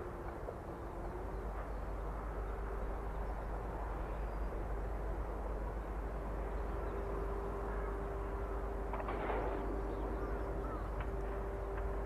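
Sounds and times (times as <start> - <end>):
distant electric train whine: 0.0 - 12.0.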